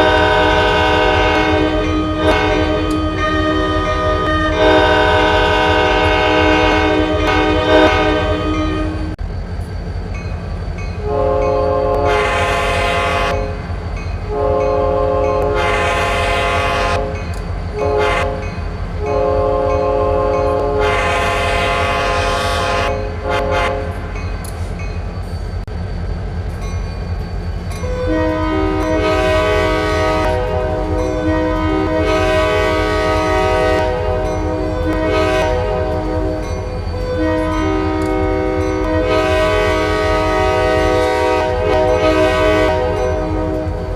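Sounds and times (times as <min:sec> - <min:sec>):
locomotive air horn blasts: 0:00.0 - 0:09.2, 0:11.0 - 0:13.5, 0:14.3 - 0:17.2, 0:17.8 - 0:18.5, 0:19.1 - 0:24.0, 0:28.0 - 0:43.9
low rumble of train: 0:00.0 - 0:43.9.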